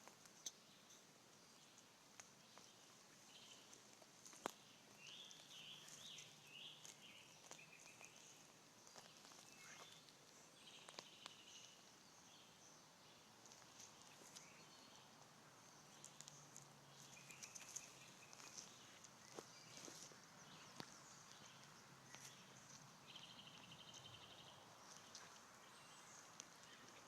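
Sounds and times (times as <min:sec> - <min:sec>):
faint bird chirps: 0:00.1 - 0:27.0.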